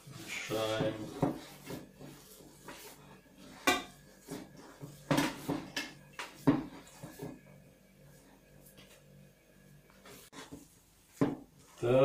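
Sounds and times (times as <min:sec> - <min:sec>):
hands kneading wet mixture: 0:00.0 - 0:12.0.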